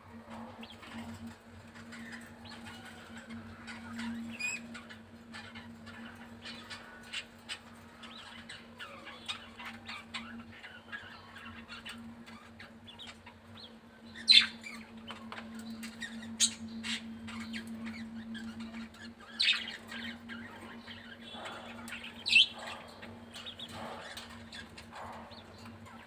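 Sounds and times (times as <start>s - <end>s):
birds scratching and pecking: 0.2s - 26.0s
quail chirping: 0.3s - 26.0s.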